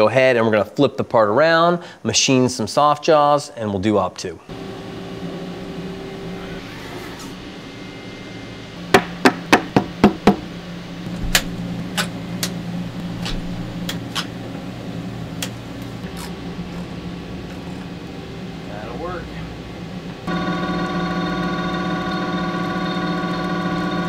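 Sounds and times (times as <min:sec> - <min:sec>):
low machine hum: 0:04.4 - 0:24.0.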